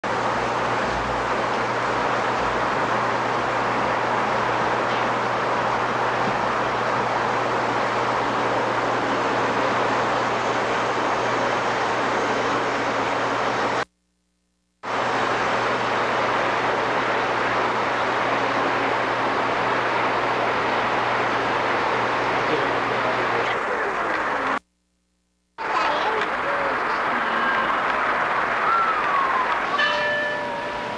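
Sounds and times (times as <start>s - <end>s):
model train running on track: 0.0s - 13.8s, 14.9s - 24.6s, 25.6s - 30.9s.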